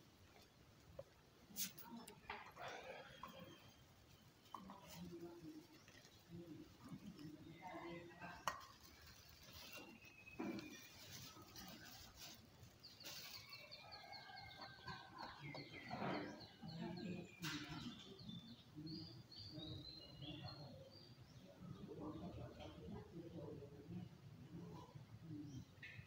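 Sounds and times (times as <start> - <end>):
small birds chirping: 0.4 - 23.4.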